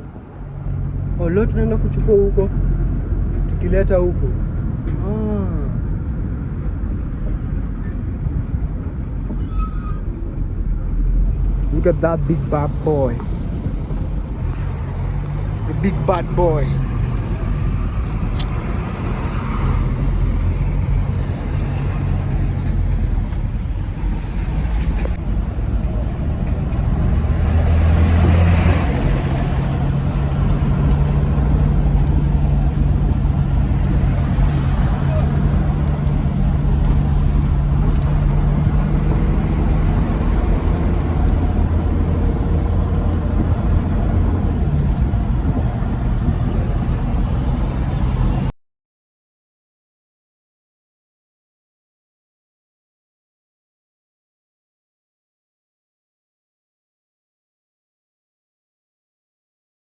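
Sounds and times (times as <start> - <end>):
truck engine and road noise: 0.0 - 48.6.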